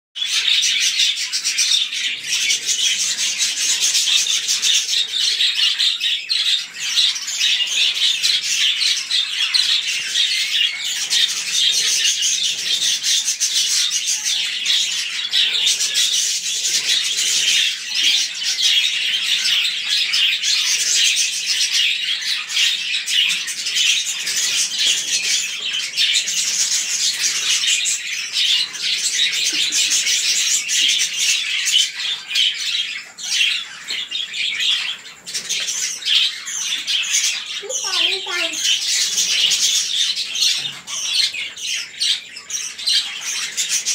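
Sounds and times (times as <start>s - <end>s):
budgerigars chattering: 0.2s - 43.9s.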